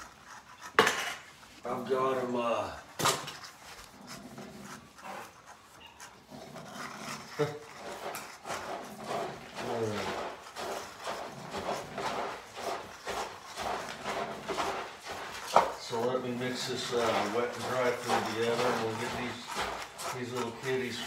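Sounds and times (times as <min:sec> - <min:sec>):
cats chewing and lapping food: 0:00.0 - 0:21.0.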